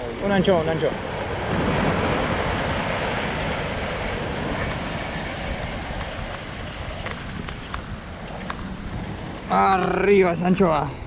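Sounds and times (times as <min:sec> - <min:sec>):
wind rumbling on microphone: 0:00.0 - 0:11.0
waves breaking against rocks: 0:00.1 - 0:10.9.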